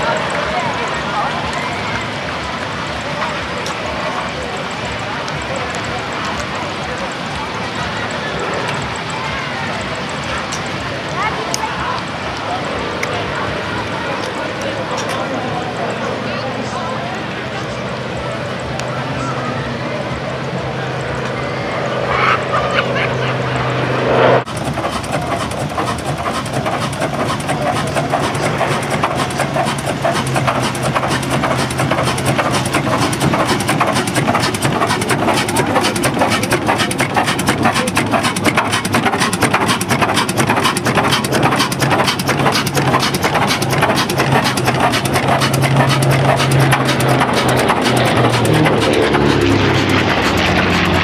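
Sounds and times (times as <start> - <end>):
engine running: 0.0 - 51.0.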